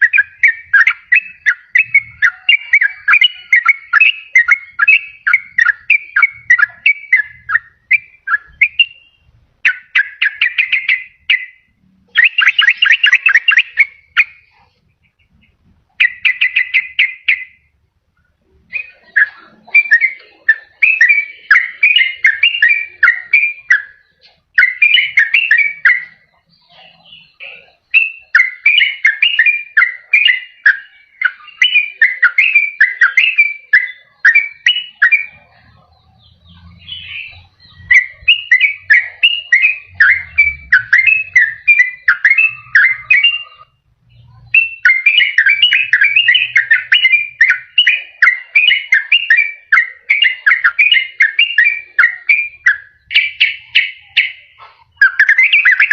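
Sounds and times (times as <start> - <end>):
bird chattering and warbling: 0.0 - 55.9.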